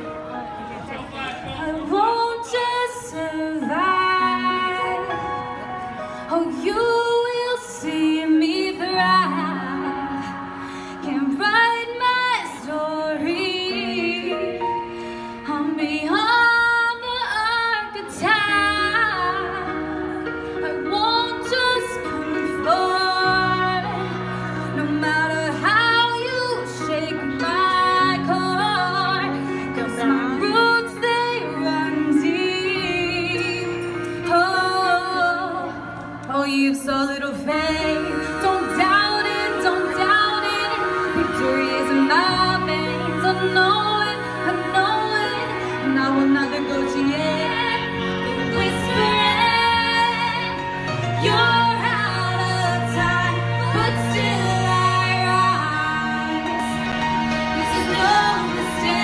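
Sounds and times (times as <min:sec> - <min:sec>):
pop backing track: 0:00.0 - 0:59.0
woman singing into microphone: 0:01.5 - 0:59.0.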